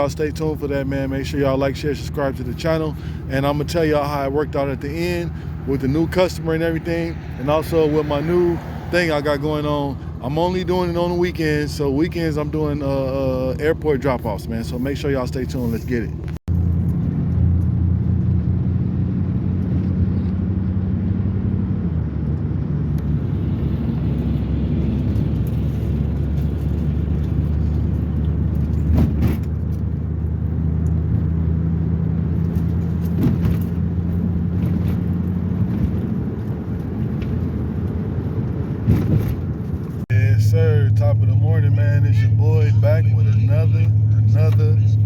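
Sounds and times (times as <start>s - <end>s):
road noise: 0.0s - 45.0s
vehicle engine drone: 0.0s - 45.0s.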